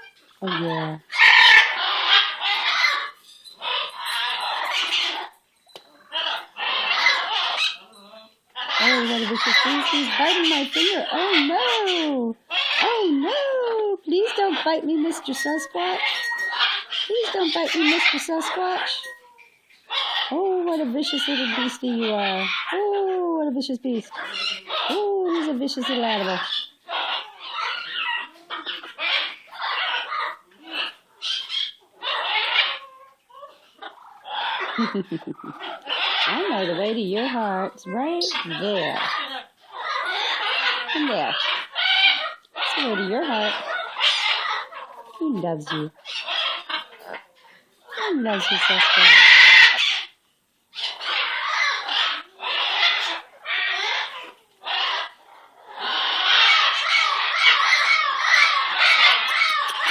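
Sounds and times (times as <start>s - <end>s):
parrot squawking: 0.0s - 5.4s, 6.1s - 8.0s, 8.6s - 13.1s, 14.2s - 20.4s, 21.0s - 22.8s, 24.1s - 47.3s, 47.9s - 59.9s.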